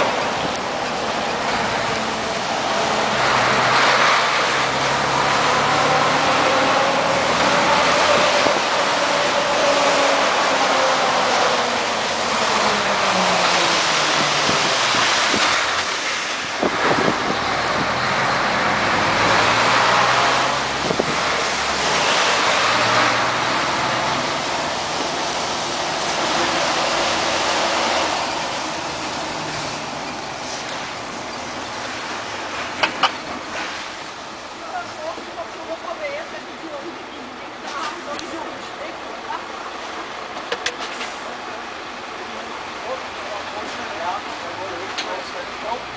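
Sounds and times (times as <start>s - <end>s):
truck diesel engine: 0.0s - 45.9s
tyre and road noise: 0.0s - 45.9s.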